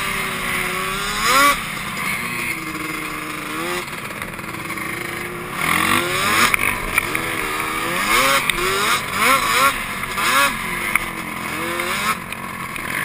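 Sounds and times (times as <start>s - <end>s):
quad engine revving: 0.0s - 13.0s.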